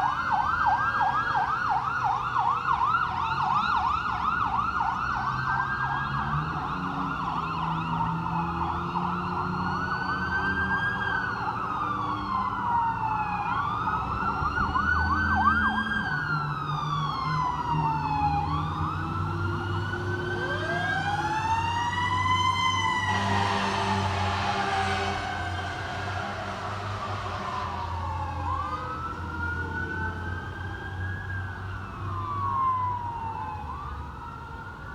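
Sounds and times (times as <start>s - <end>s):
low siren climbing: 0.0s - 34.9s
truck engines rumbling: 0.0s - 34.9s
electronic sirens wailing and yelping: 5.0s - 34.9s.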